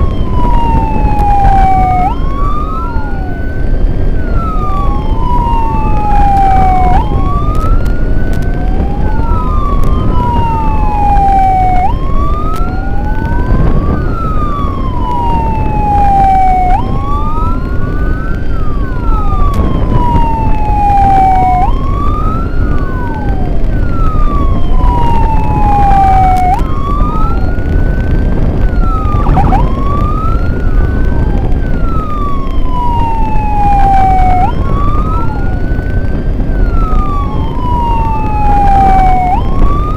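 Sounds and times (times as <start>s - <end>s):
emergency sirens wailing: 0.0s - 39.9s
vehicle engine and road noise: 0.0s - 39.9s.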